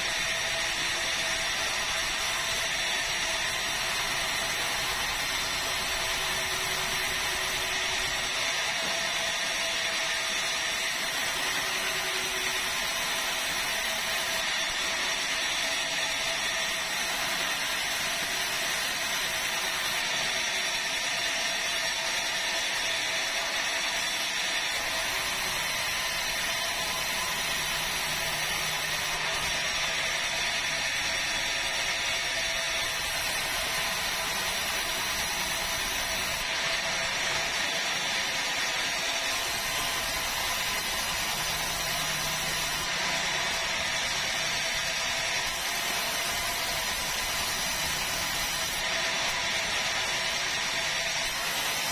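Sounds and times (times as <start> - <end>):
band saw blade whining: 0.0 - 51.9.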